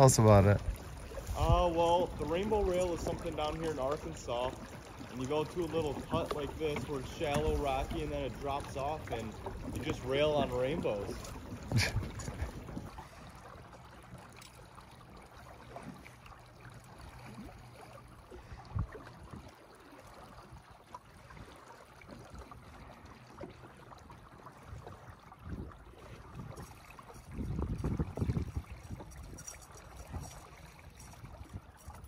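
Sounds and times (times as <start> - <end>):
river water flowing and gurgling: 0.0 - 32.0.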